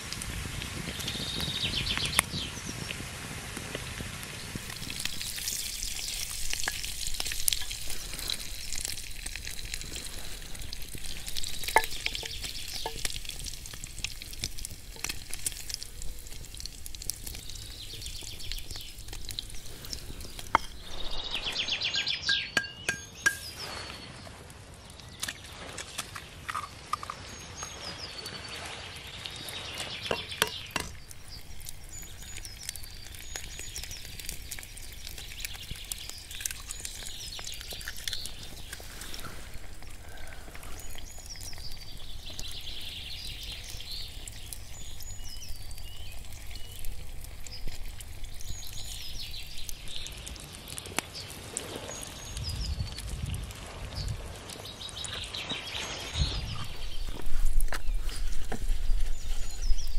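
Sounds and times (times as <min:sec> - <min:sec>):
campfire crackling and popping: 0:00.0 - 0:59.9
birds chirping: 0:04.4 - 0:53.0, 0:53.9 - 0:59.9.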